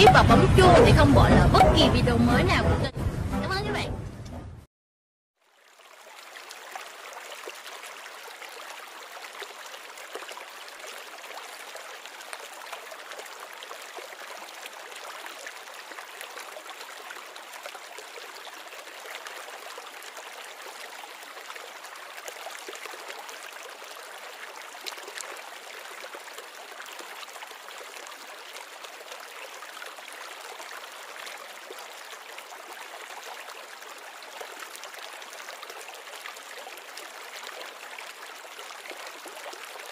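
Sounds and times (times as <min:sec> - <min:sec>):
aquarium water trickling: 0:05.4 - 0:39.9.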